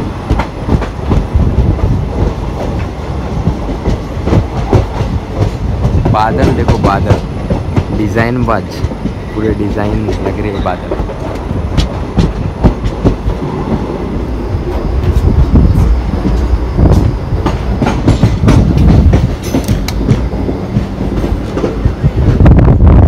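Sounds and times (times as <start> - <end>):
wheels clickety-clack on track: 0.0 - 14.0, 14.7 - 23.0
train coach rumble: 0.0 - 23.0.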